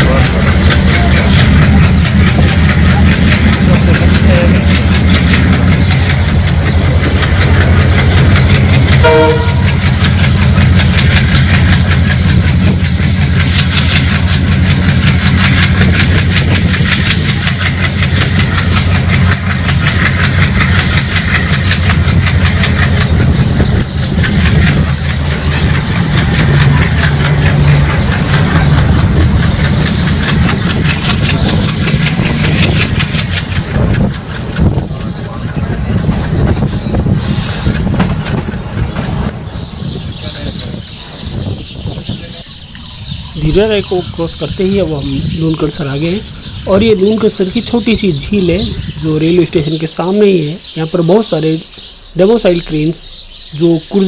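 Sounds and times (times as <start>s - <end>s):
diesel locomotive engine chugging: 0.0s - 54.0s
train wheels clattering on rails: 0.0s - 54.0s.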